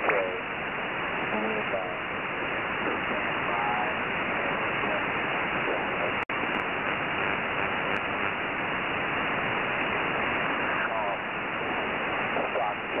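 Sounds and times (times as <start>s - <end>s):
shortwave radio static hiss: 0.0s - 13.0s.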